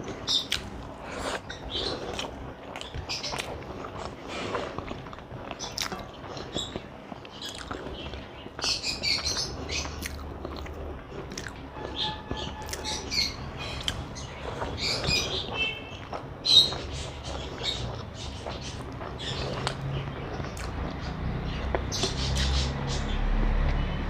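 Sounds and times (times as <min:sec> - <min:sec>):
person chewing: 0:00.0 - 0:15.4, 0:16.0 - 0:21.0.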